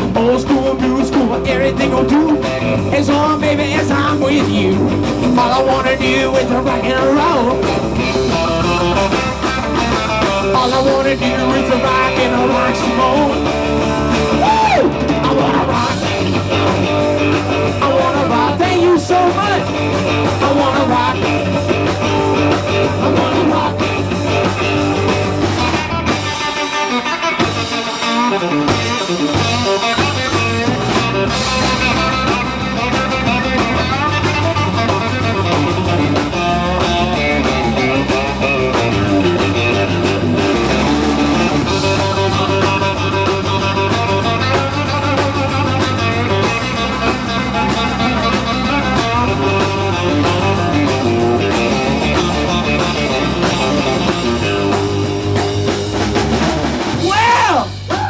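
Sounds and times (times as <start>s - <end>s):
electric guitar: 0.0s - 58.0s
live rock band playing: 0.0s - 58.0s.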